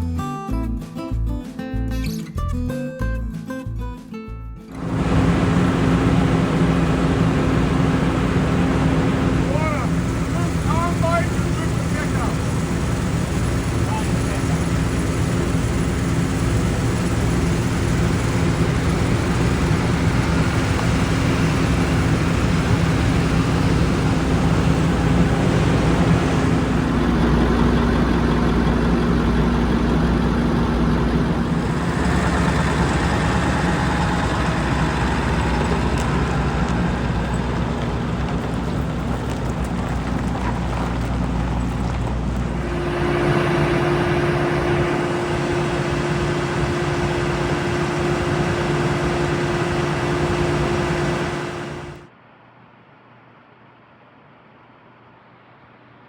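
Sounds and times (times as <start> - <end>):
diesel engine running: 4.7 - 52.1.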